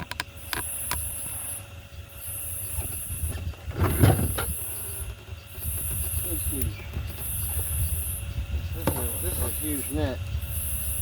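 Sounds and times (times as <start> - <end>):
insects buzzing: 0.0 - 11.0
steady low rumble: 0.0 - 11.0.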